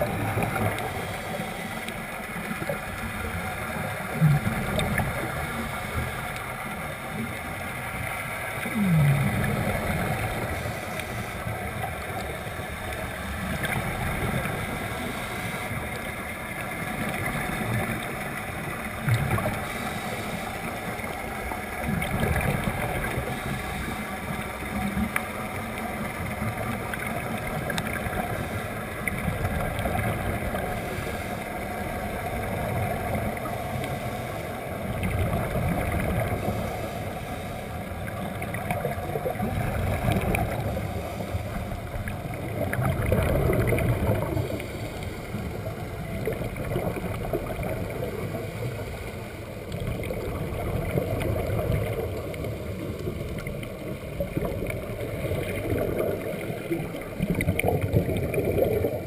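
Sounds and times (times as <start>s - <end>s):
scuba regulator bubbles: 0.0s - 59.0s
underwater rushing water: 0.0s - 59.0s.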